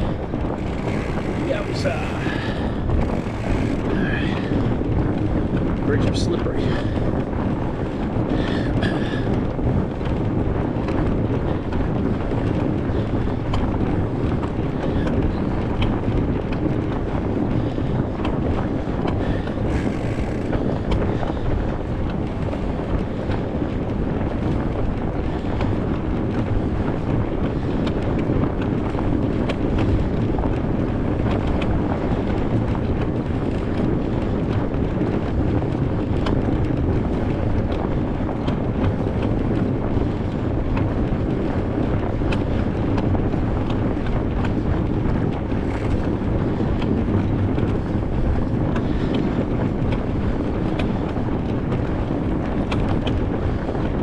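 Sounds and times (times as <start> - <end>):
low wind rumble on microphone: 0.0 - 54.0.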